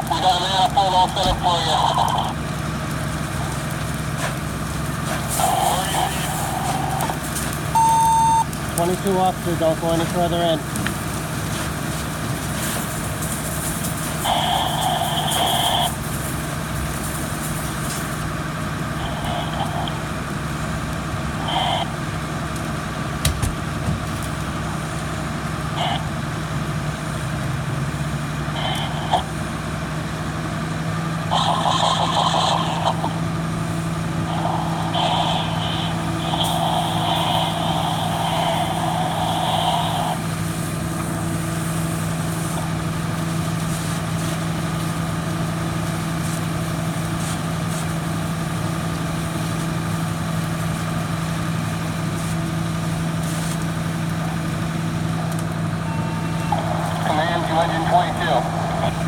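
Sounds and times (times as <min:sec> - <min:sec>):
fire engine running: 0:00.0 - 0:59.0.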